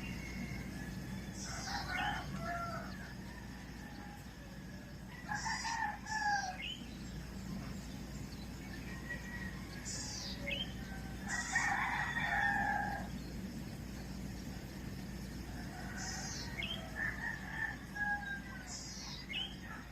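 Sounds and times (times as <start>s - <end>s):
rooster crowing: 0.0s - 6.8s, 8.7s - 13.3s, 15.2s - 19.9s
small birds chirping: 0.0s - 19.9s.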